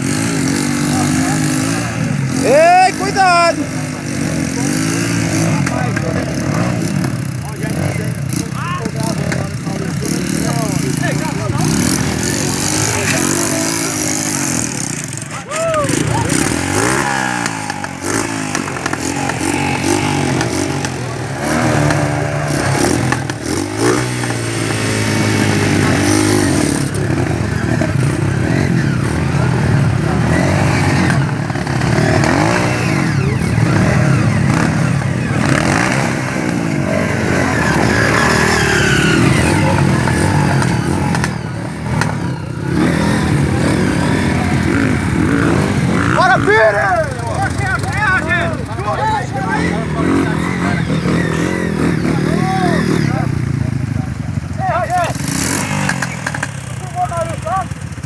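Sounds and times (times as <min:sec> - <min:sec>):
motocross bike engines revving: 0:00.0 - 0:58.0.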